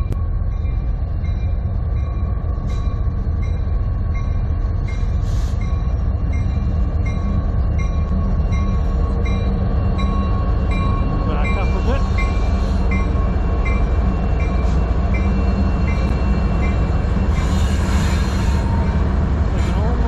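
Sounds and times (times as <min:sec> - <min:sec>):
diesel locomotive engine rumble: 0:00.0 - 0:20.0
steel wheels on rail: 0:00.0 - 0:20.0.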